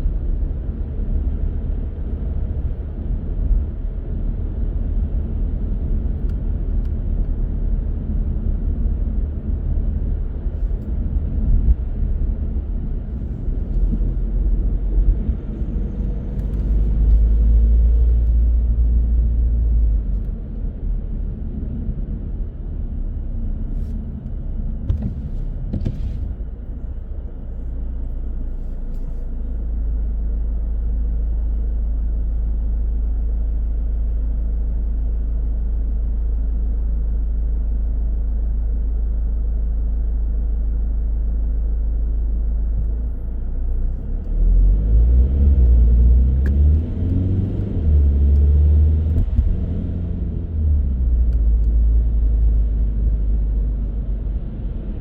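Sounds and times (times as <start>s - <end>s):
road noise: 0.0s - 34.8s, 40.7s - 55.0s
car engine rumble: 0.0s - 55.0s.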